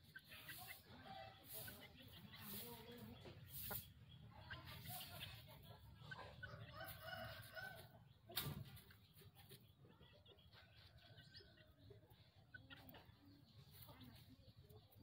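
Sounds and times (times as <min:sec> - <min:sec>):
young chickens clucking: 0:00.0 - 0:15.0.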